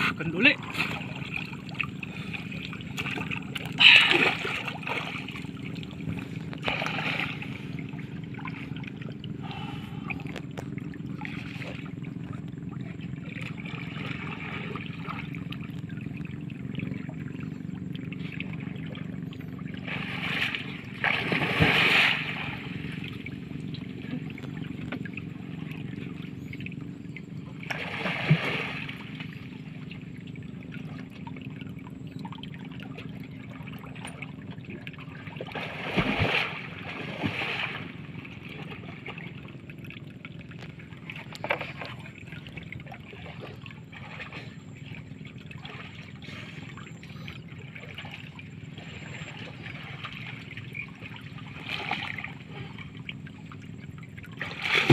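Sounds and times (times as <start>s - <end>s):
low background rumble: 0.0s - 54.9s
water splashing and sloshing: 0.0s - 54.9s.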